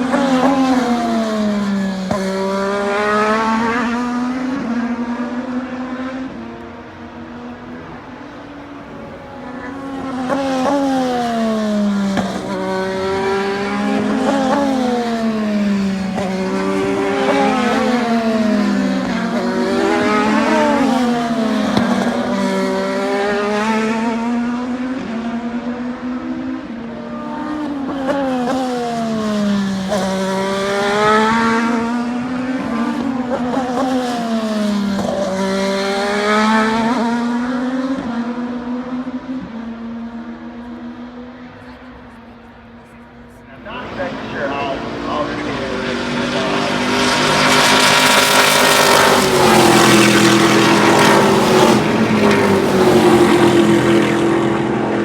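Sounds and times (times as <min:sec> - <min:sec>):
race car engine shifting gears: 0:00.0 - 0:25.2, 0:27.4 - 0:39.6, 0:43.5 - 0:55.0.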